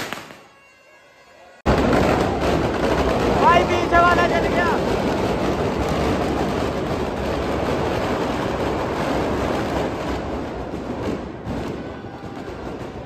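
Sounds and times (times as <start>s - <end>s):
firecrackers crackling barrage: 0.0s - 13.0s.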